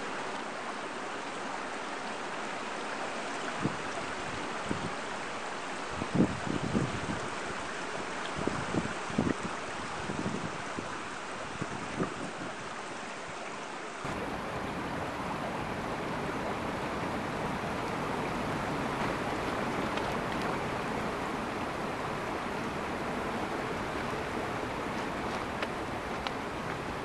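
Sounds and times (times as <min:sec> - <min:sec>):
stream rushing: 0:00.0 - 0:27.0.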